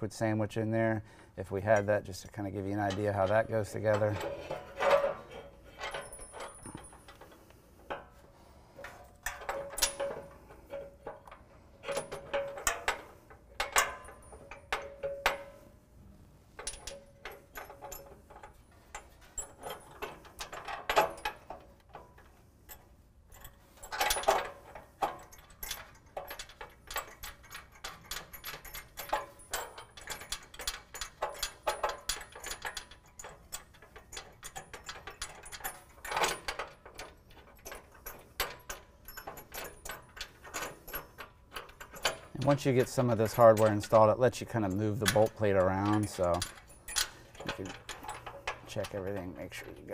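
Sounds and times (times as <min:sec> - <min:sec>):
metal bolts and nuts clinking: 0:01.5 - 0:15.8, 0:16.5 - 0:49.9.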